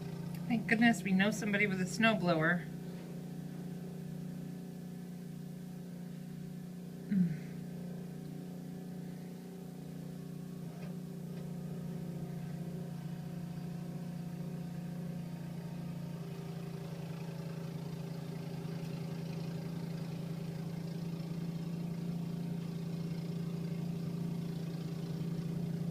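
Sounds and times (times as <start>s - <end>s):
snowblower engine running: 0.0s - 25.9s.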